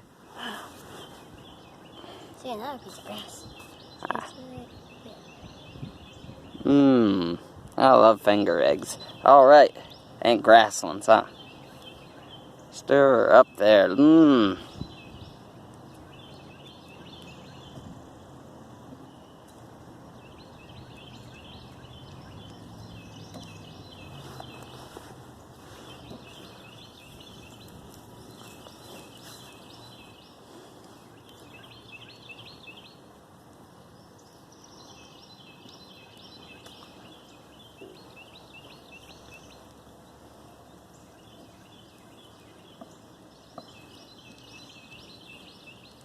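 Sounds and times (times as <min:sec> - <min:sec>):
birds chirping: 0:00.0 - 0:46.0
outdoor background noise: 0:00.0 - 0:46.0.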